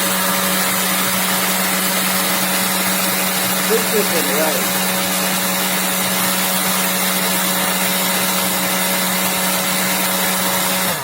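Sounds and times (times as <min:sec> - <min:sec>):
hair dryer blowing air: 0:00.0 - 0:11.0.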